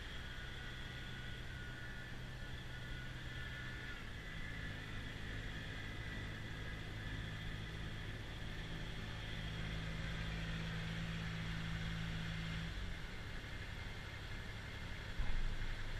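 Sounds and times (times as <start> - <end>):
distant tractor diesel engine: 0.0 - 15.9
snowblower working: 0.0 - 15.9.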